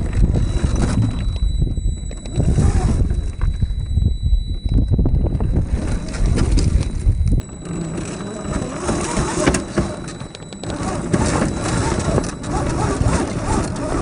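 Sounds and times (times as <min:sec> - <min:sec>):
electric motor whine: 0:00.0 - 0:14.0
wind buffeting microphone: 0:00.0 - 0:14.0.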